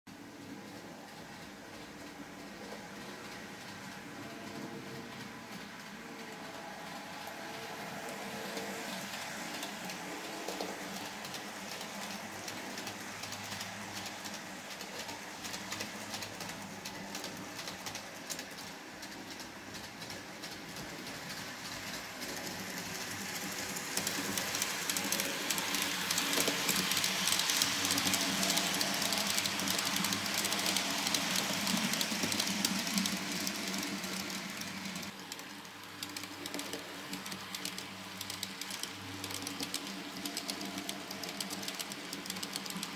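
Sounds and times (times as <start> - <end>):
model train rolling whir: 0.1 - 42.9
wheels clicking over rail joints: 0.2 - 42.9.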